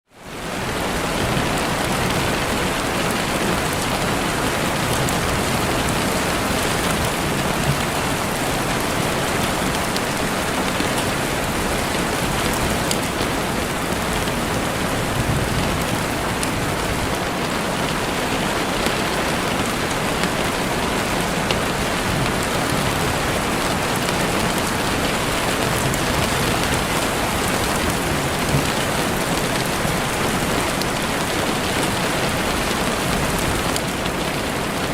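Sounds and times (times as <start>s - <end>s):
heavy rain on a window: 0.1s - 34.9s.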